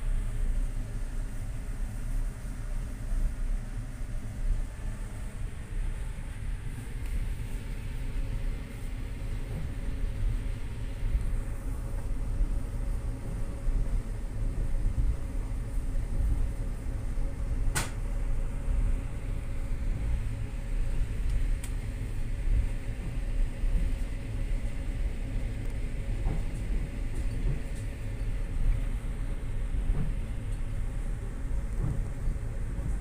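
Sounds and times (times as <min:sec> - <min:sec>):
train rumbling over rails: 0:00.0 - 0:33.0.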